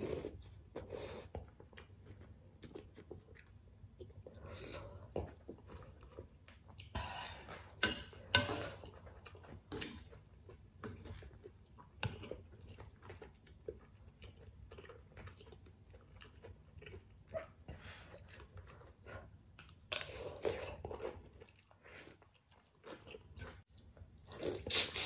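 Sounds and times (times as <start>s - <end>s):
person chewing noodles: 0.0s - 25.0s.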